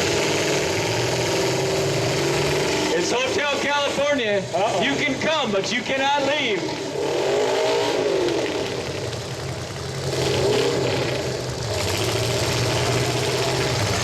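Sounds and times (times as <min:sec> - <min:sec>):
truck engines revving: 0:00.0 - 0:14.0.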